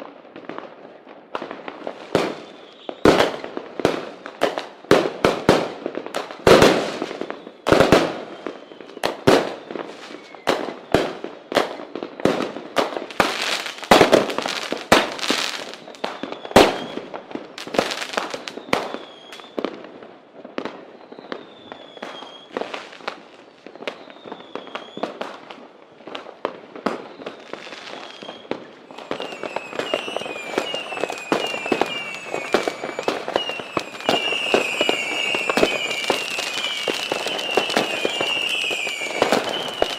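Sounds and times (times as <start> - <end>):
firecracker bangs and cracks: 0.0 - 39.9
fireworks crackling: 0.0 - 39.9
fireworks whistling: 1.4 - 19.8, 20.6 - 39.9.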